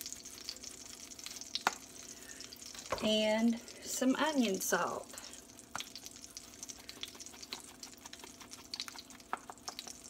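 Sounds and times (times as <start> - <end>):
butter and oil crackling in skillet: 0.0 - 10.0
faint steady hum: 0.0 - 10.0.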